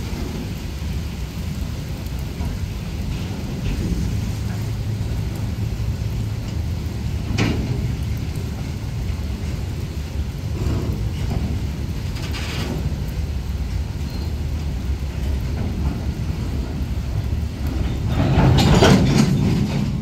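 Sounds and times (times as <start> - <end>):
heavy rain: 0.0 - 20.0
train wheels clattering: 0.0 - 20.0
train wheels rumbling on rails: 0.0 - 20.0.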